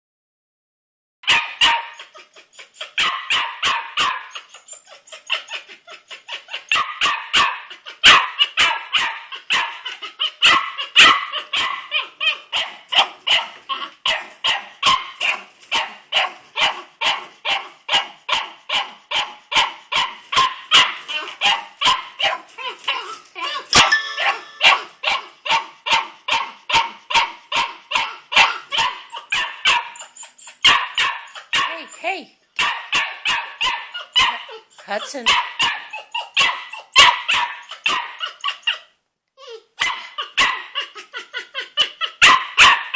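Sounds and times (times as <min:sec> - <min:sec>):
puppy yapping: 0:01.2 - 0:42.9.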